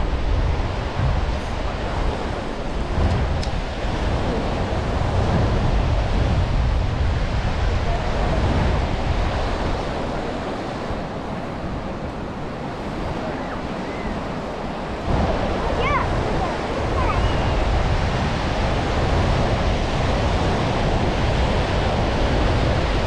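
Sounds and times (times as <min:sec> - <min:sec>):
surf washing onto beach: 0:00.0 - 0:23.0
wind buffeting microphone: 0:00.0 - 0:23.0.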